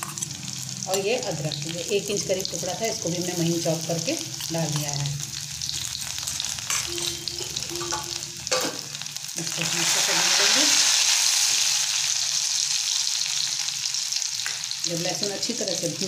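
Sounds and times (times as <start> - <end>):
garlic sizzling in hot oil: 0.0 - 16.0.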